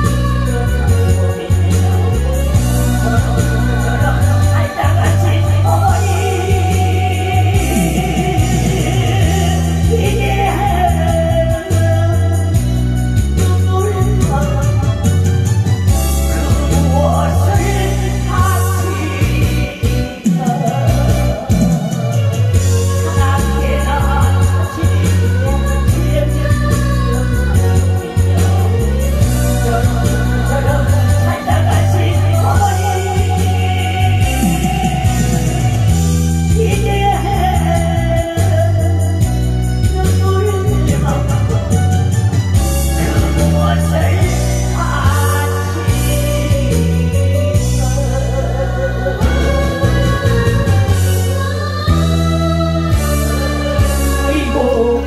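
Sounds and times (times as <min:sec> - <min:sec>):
person singing through pa: 0:00.0 - 0:12.7, 0:16.2 - 0:41.9, 0:42.8 - 0:55.0
backing track with pulsing bass: 0:00.0 - 0:55.0.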